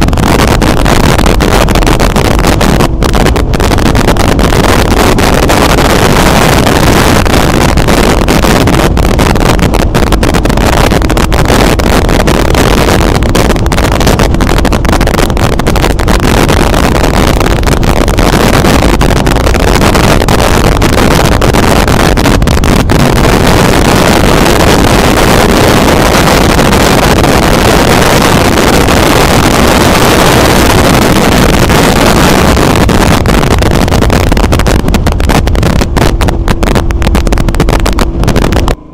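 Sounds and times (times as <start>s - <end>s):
wind blasting microphone: 0.0s - 38.9s.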